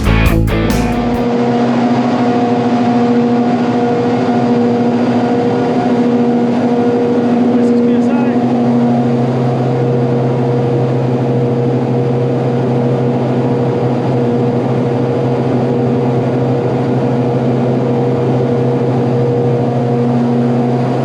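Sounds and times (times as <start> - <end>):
refrigeration compressor running: 0.0 - 21.0.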